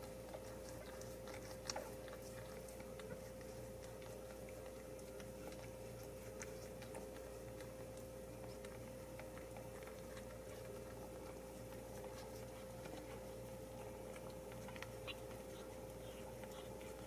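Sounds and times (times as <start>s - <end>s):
cat licking kittens: 0.0s - 17.0s.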